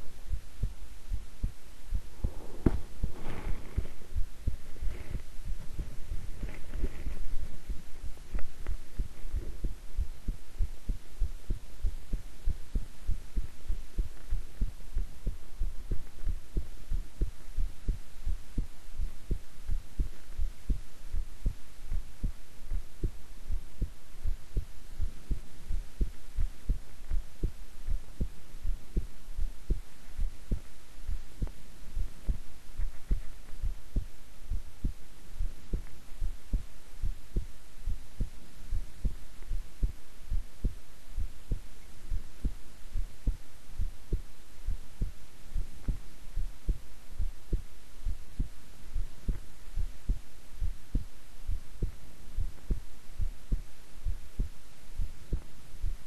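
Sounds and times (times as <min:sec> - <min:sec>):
heart beating: 0:00.0 - 0:56.0.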